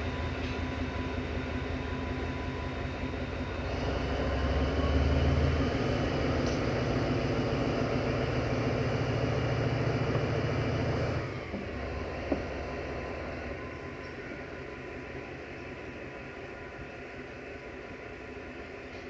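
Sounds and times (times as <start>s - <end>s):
locomotive engine running: 0.0s - 19.0s.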